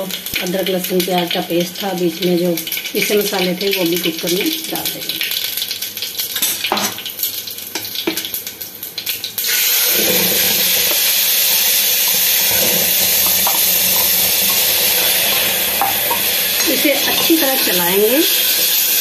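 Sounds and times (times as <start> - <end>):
paste sizzling in oil: 0.0 - 19.0
spices crackling in hot oil: 0.0 - 19.0.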